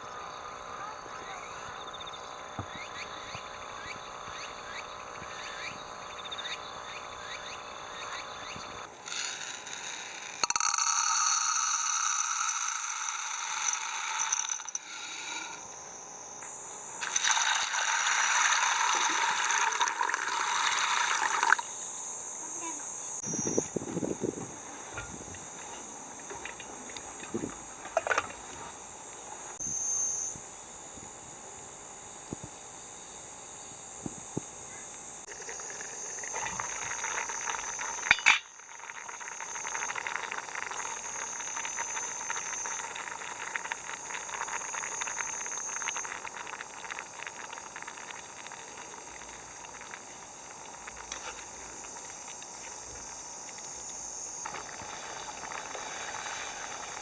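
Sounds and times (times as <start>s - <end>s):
food sizzling over campfire: 0.0s - 29.6s, 35.0s - 57.0s
insects droning: 0.0s - 57.0s.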